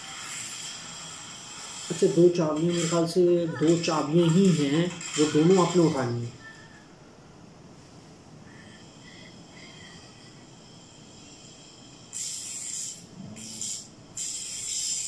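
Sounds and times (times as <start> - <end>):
harsh hissing noise bursts: 0.0 - 6.3, 8.5 - 15.0.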